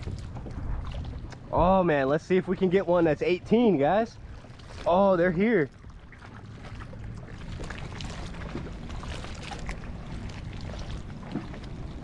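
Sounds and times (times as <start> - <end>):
small waves lapping against hull: 0.0 - 12.0.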